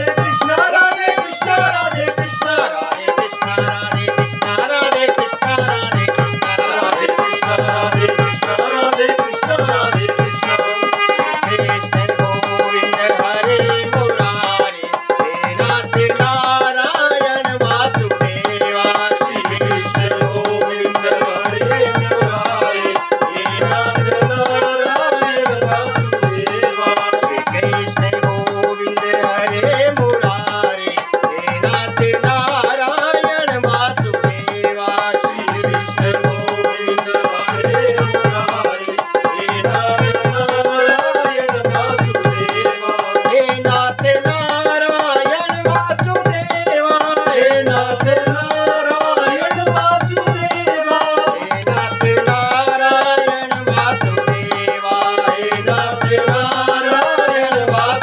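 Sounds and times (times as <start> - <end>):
men singing devotional song: 0.0 - 58.0
tabla and percussion: 0.0 - 58.0.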